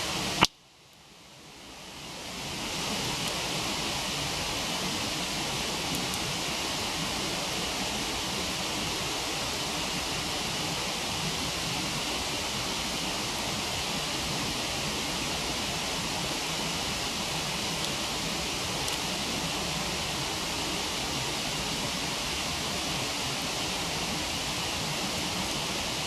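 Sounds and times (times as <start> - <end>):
waterfall rushing: 2.0 - 26.0.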